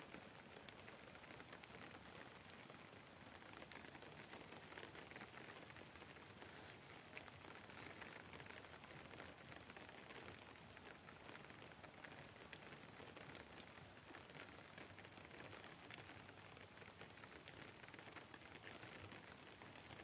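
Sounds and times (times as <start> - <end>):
faint outdoor hiss: 0.0 - 20.0.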